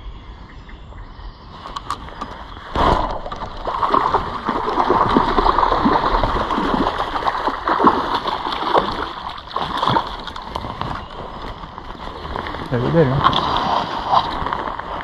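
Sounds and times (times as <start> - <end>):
fish splashing and gurgling: 2.3 - 15.0.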